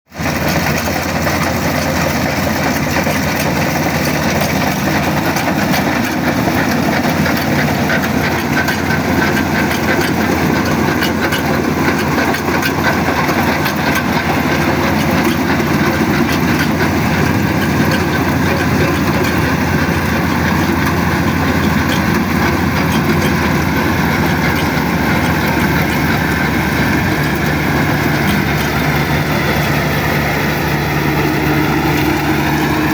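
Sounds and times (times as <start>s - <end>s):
combine harvester engine drone: 0.1s - 32.9s.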